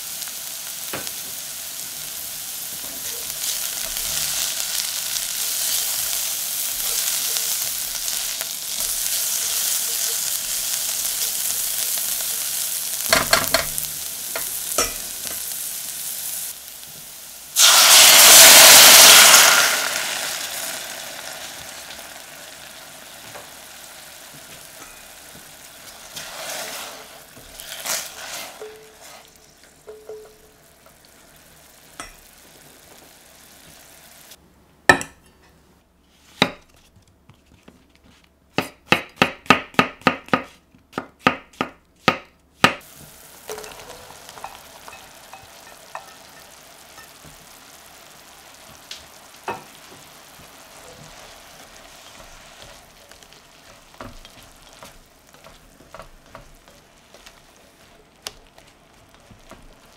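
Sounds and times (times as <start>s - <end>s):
food sizzling in a saucepan: 0.0s - 34.4s, 42.0s - 59.9s
spatula stirring in a pan: 0.3s - 18.4s, 20.5s - 33.9s, 42.8s - 59.9s.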